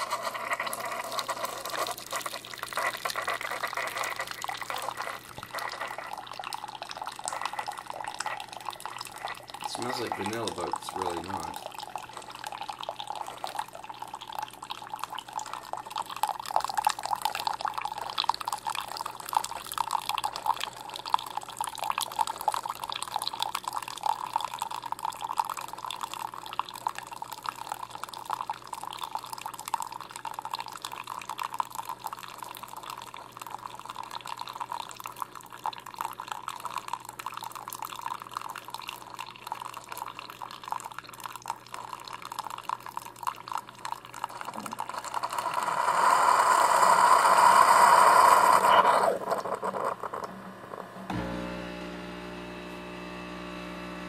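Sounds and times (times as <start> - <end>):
coffee pouring into mug: 0.0 - 54.0.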